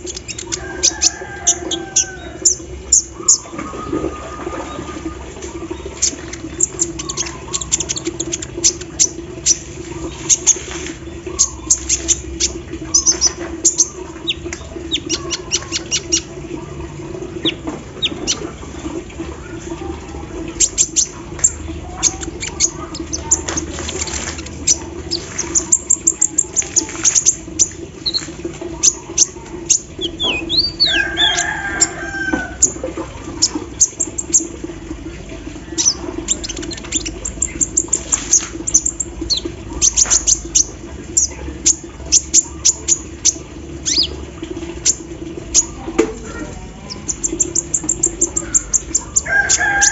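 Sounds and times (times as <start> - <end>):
bird singing ticking notes and chirps: 0.0 - 16.3, 20.5 - 34.6, 35.6 - 44.2, 46.7 - 49.3.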